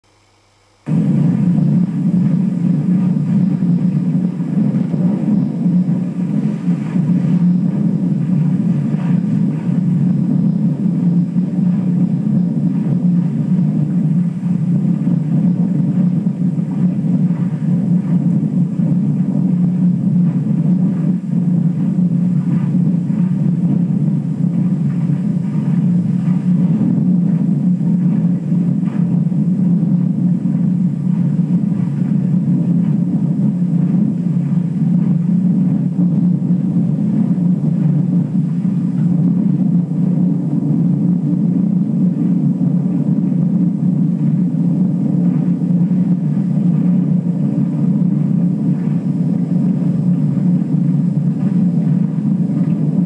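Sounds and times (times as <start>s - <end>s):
film projector droning: 0.0s - 53.0s.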